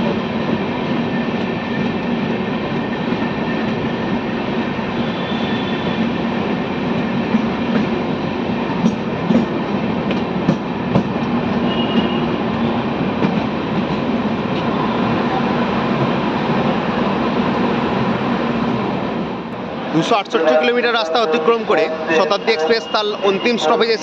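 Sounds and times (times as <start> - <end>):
train rumbling on track: 0.0 - 24.0.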